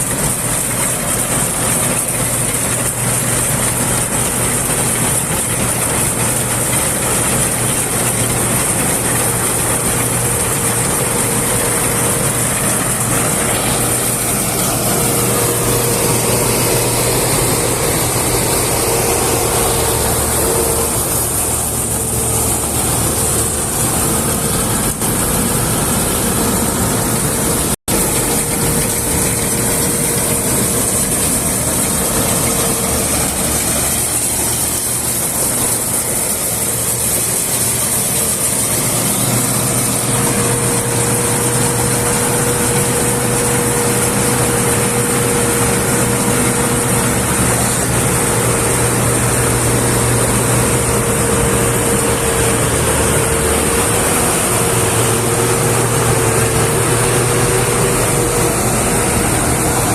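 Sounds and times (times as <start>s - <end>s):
constant machine whine: 0.0s - 59.9s
farm machine engine running: 0.0s - 59.9s.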